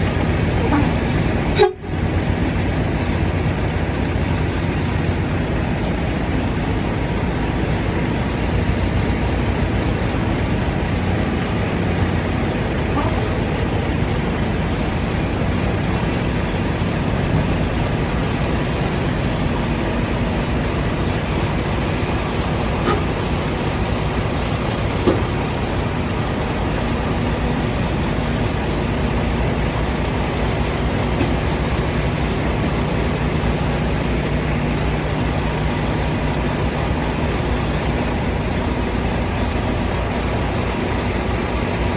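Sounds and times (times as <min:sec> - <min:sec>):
diesel truck engine rumbling: 0:00.0 - 0:41.9.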